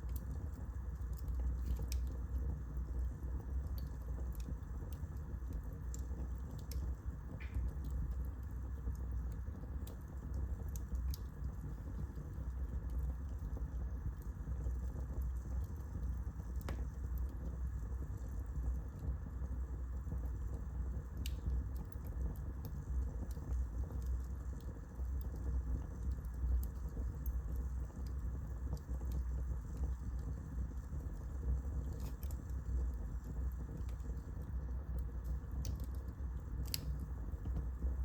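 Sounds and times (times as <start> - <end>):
fire crackling: 0.0 - 38.0
fire low rumble: 0.0 - 38.0.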